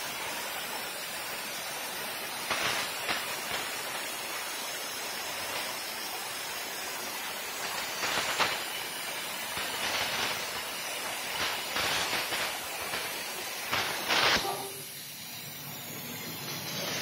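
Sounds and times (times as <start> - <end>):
plasma torch cutting steel: 0.0 - 17.0.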